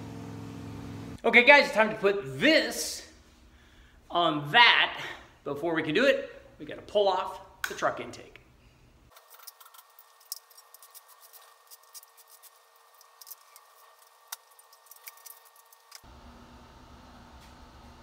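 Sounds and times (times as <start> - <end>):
faint shop hum: 0.0 - 18.0.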